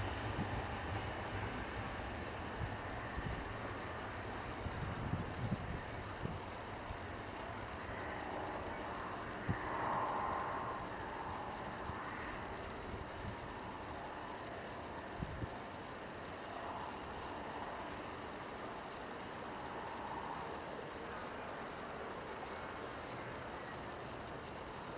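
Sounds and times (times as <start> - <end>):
rail vehicle running: 0.0 - 24.9.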